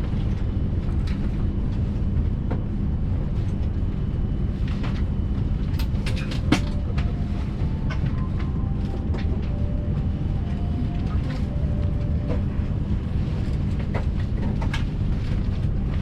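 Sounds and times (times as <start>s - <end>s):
train cabin low rumble: 0.0s - 16.0s.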